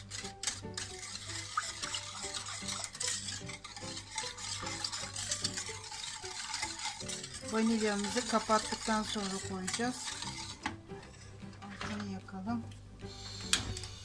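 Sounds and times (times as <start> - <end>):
whisk swishing liquid in pot: 0.0 - 12.1
whisk wires ticking on pot: 0.0 - 12.5.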